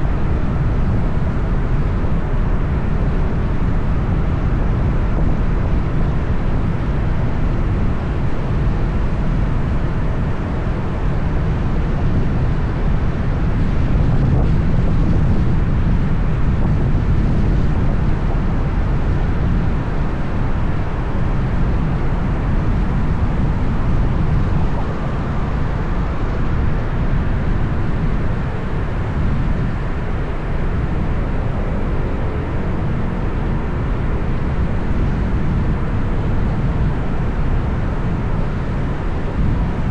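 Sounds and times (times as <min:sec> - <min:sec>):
city traffic rumble: 0:00.0 - 0:39.9.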